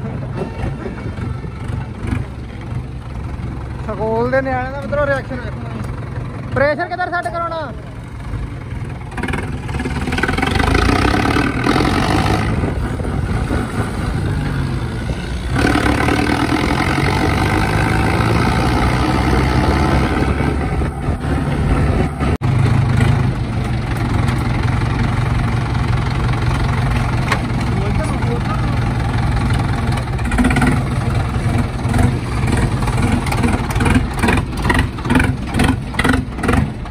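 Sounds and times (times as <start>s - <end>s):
diesel tractor engine revving: 0.0s - 36.9s.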